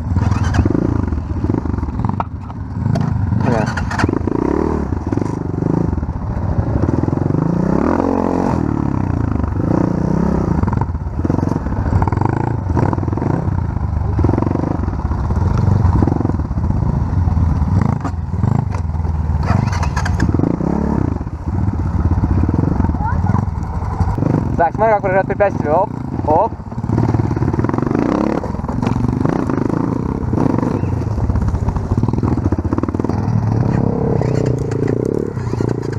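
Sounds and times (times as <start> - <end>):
off-road vehicle engine revving: 0.0 - 35.9.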